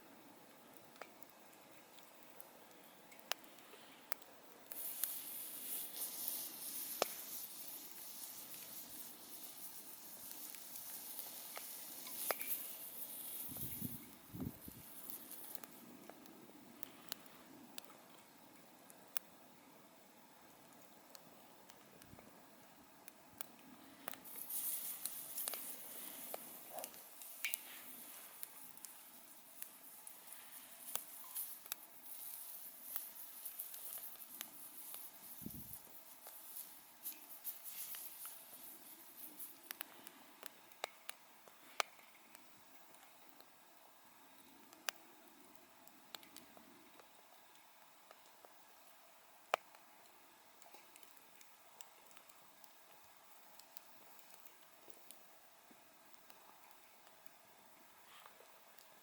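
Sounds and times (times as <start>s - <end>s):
campfire crackling and popping: 0.0s - 59.0s
steady high hiss: 0.0s - 59.0s.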